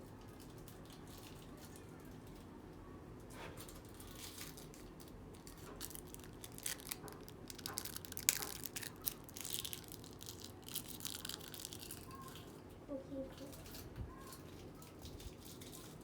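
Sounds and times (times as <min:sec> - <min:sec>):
plastic packaging crinkling and tearing: 0:00.2 - 0:02.5, 0:03.6 - 0:12.6, 0:13.4 - 0:16.0.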